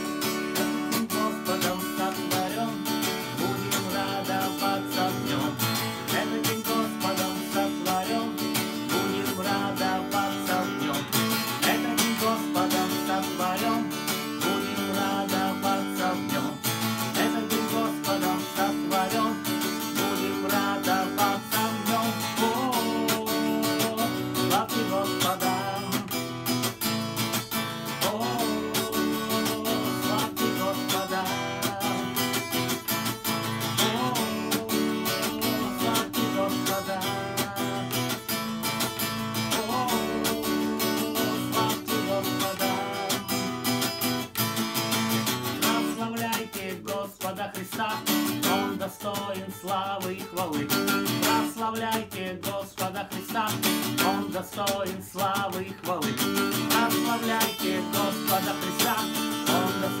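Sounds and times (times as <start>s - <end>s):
man singing: 0.0s - 44.3s, 44.9s - 60.0s
acoustic guitar strumming: 0.0s - 60.0s.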